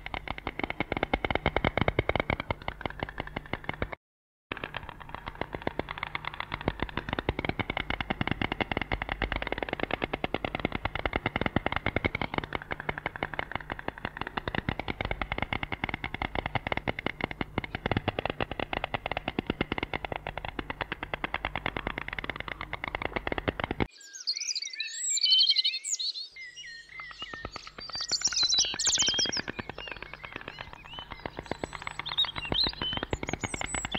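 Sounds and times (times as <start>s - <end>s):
stork clattering its bill: 0.0s - 23.9s, 27.0s - 33.9s.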